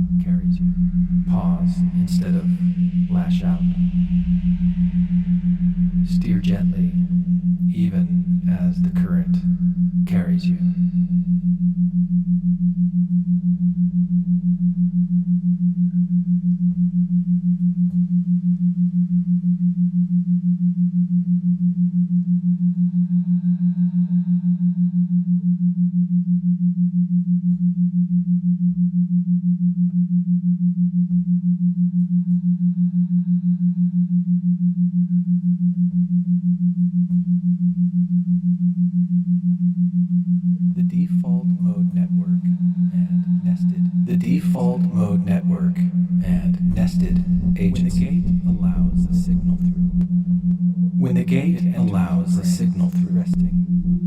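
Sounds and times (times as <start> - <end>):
low throbbing pure tone: 0.0 - 54.0.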